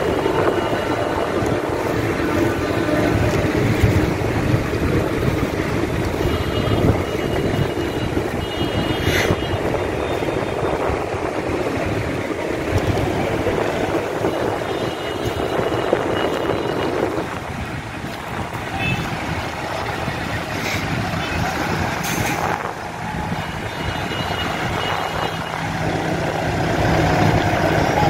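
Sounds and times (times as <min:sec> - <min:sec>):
tractor engines running: 0:00.0 - 0:28.0.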